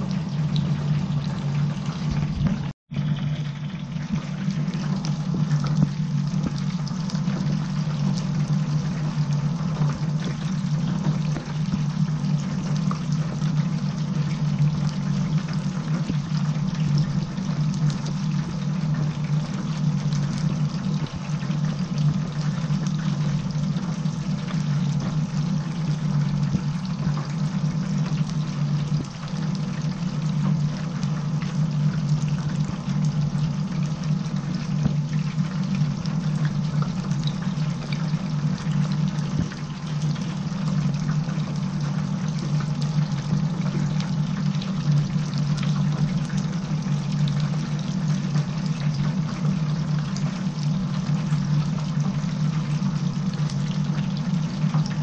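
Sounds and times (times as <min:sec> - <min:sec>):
oil bubbling and sizzling: 0:00.0 - 0:55.0.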